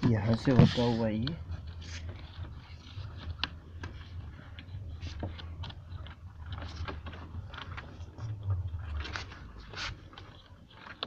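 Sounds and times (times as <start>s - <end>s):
hands rustling wires in trim: 0.0s - 11.0s.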